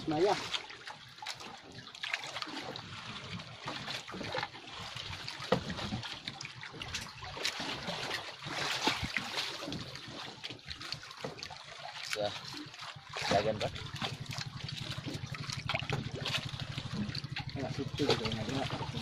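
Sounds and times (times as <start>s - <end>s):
water splashing against boat: 0.0s - 19.0s.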